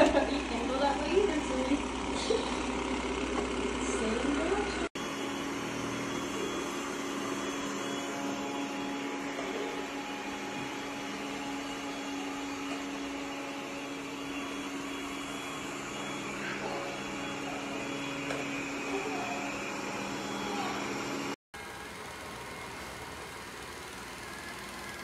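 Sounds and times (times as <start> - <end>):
robot vacuum running: 0.0 - 25.0.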